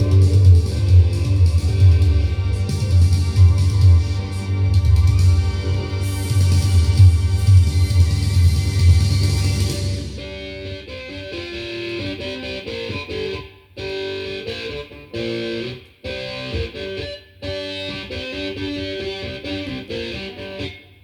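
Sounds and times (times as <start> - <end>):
electric guitar riff: 0.0 - 21.0.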